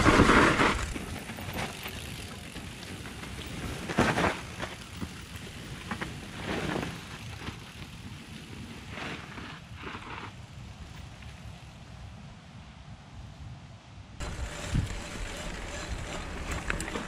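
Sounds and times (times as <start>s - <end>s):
bike knocking and rattling: 0.0s - 11.3s, 14.2s - 17.0s
bike tyre noise on dirt: 0.0s - 12.6s, 14.2s - 17.0s.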